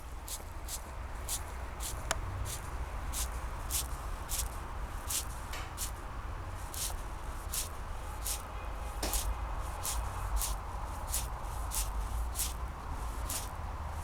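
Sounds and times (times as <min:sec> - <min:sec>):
butterfly dry hissing bursts: 0:00.3 - 0:06.0, 0:06.7 - 0:08.4, 0:09.1 - 0:12.6, 0:13.2 - 0:13.5.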